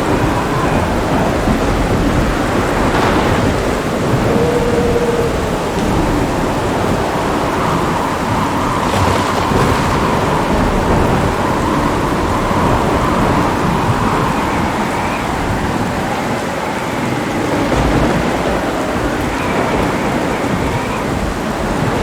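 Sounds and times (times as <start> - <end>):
heavy rain falling: 0.0 - 22.0
low rolling thunder: 0.0 - 22.0.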